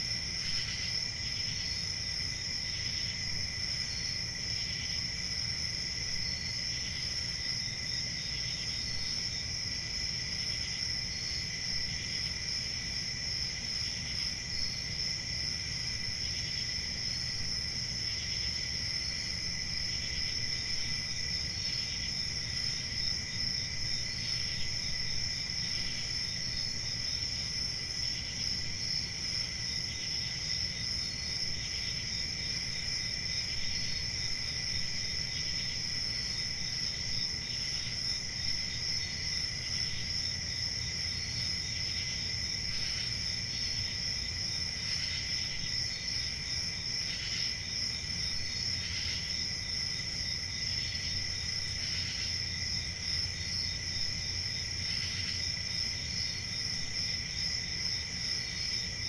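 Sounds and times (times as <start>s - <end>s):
crickets trilling: 0.0s - 59.0s
short cricket chirps: 0.0s - 59.0s.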